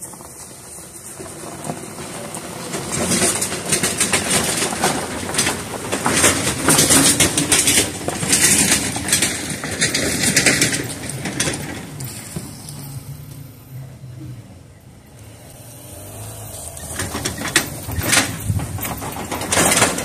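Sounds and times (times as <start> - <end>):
car engine idling: 0.0 - 20.0
trailer rattling: 0.0 - 20.0.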